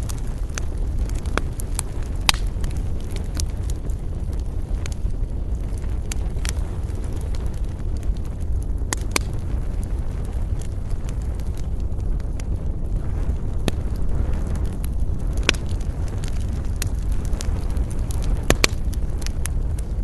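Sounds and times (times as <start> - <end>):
low rumble: 0.0 - 20.0
wood fire crackling: 0.0 - 20.0.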